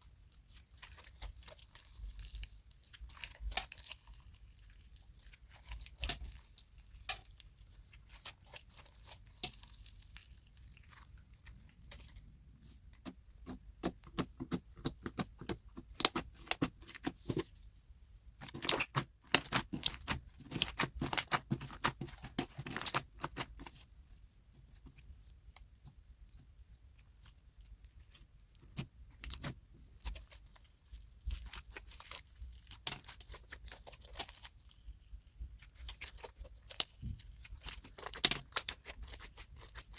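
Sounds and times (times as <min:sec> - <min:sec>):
slime squished by hand: 0:00.3 - 0:17.6, 0:18.4 - 0:39.9.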